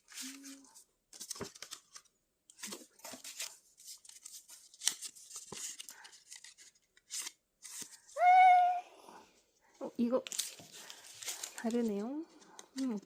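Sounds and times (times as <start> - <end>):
paper rustling and crinkling: 0.0 - 8.4, 10.0 - 13.0.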